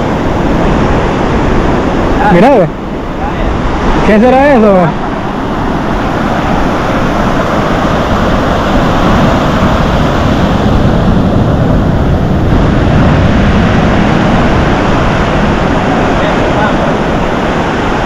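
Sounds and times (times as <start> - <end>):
ocean surf washing up beach: 0.0 - 18.0
wind buffeting microphone: 0.0 - 18.0.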